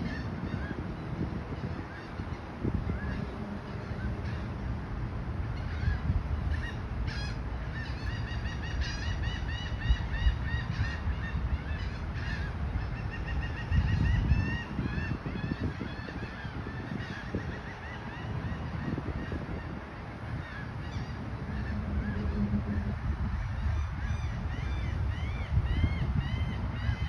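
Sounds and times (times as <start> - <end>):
birds calling rapidly: 0.0 - 4.8, 5.4 - 27.0
steady low rumble: 0.0 - 27.0.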